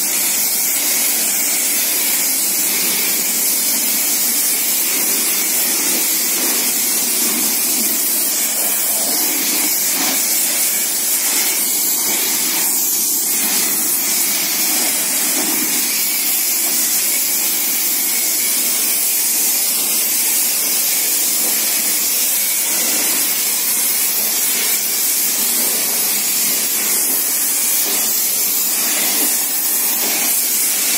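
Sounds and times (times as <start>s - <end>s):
pressure washer spraying water: 0.0s - 30.9s.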